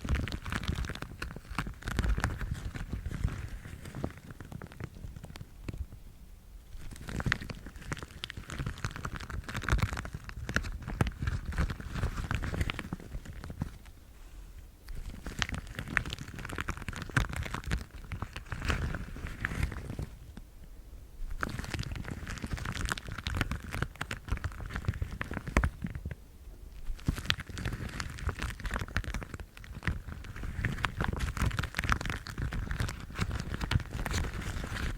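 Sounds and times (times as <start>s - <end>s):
rubber gloves crinkling: 0.0s - 6.0s, 6.6s - 34.9s.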